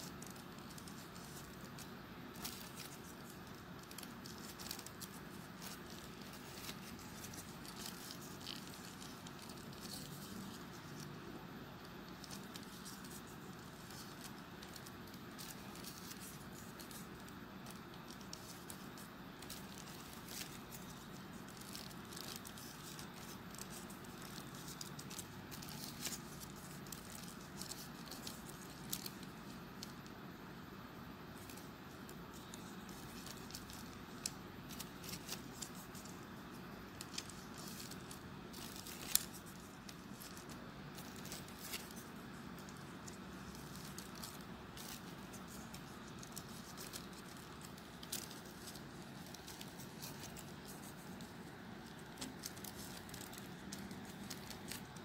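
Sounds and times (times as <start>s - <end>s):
paper rustling and crackling: 0.0s - 55.0s
steady hiss: 0.0s - 55.0s.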